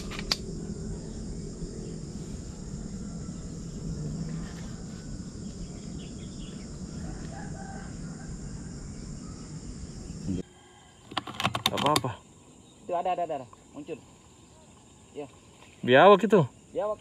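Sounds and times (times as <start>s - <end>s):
distant bird calls: 0.0s - 16.0s
insects droning: 0.0s - 17.0s.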